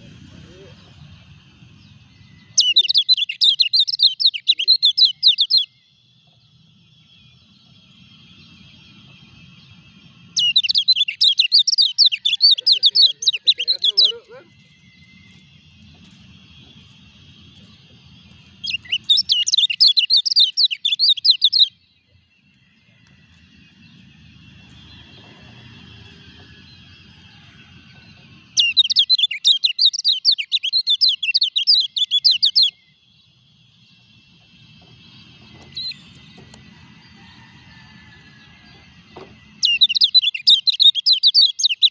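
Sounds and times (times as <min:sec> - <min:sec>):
bird high twittering chirps: 0:00.0 - 0:37.5, 0:38.3 - 0:41.9.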